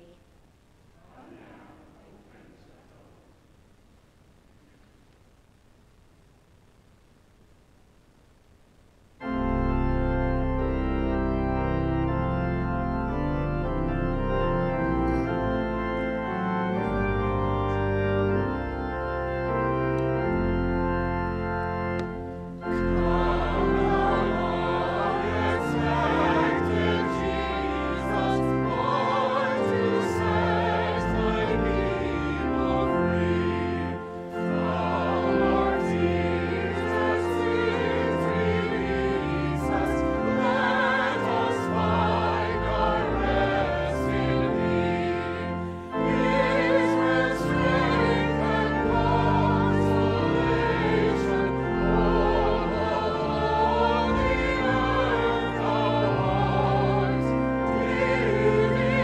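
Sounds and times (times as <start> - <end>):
congregation singing a hymn: 9.2 - 59.0
pipe organ chords: 9.2 - 59.0.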